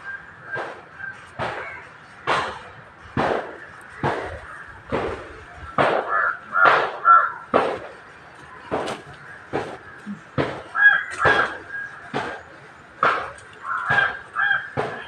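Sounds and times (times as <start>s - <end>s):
harsh bird calls: 0.0s - 15.0s.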